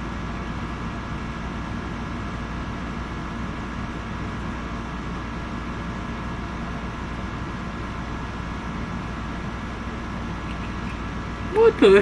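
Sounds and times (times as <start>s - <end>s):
steady background hum and hiss: 0.0s - 12.0s.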